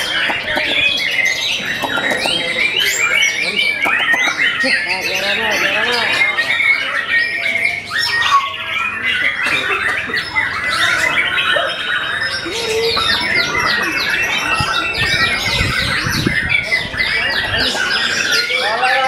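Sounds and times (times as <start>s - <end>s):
many birds singing: 0.0s - 19.0s.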